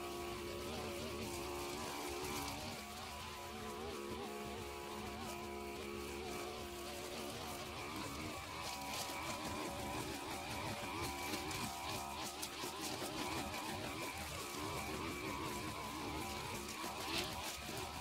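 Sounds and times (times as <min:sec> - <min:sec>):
brush cutter buzzing: 0:00.0 - 0:18.0.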